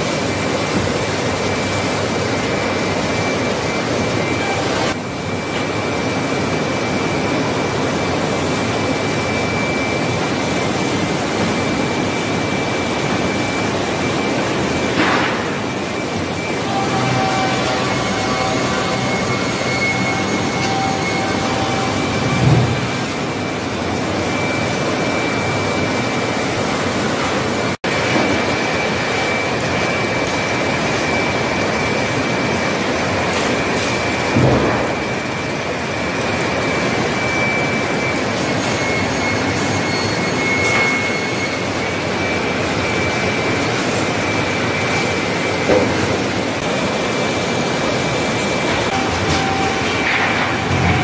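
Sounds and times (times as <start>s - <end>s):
high-pitched saw whine: 0.0s - 51.0s
sawmill machines roaring: 0.0s - 51.0s.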